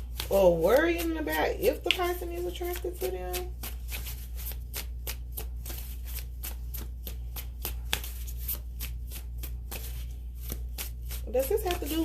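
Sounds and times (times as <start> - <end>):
cards being shuffled: 0.0 - 12.0
low steady hum: 0.0 - 12.0.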